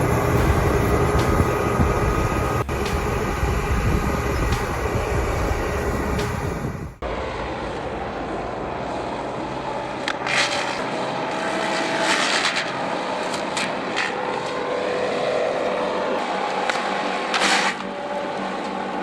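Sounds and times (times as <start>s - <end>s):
engine running: 0.0s - 17.1s.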